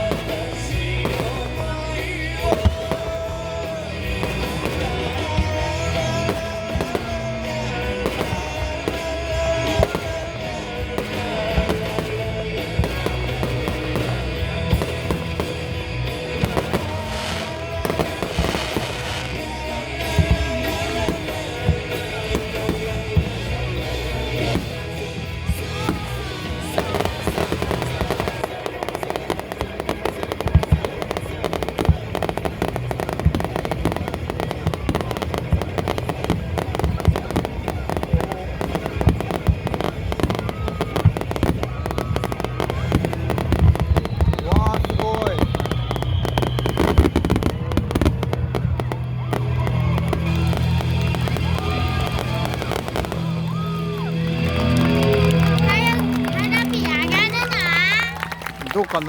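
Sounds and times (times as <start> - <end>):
fireworks bangs: 0.0 - 59.0
music playing: 0.0 - 59.0.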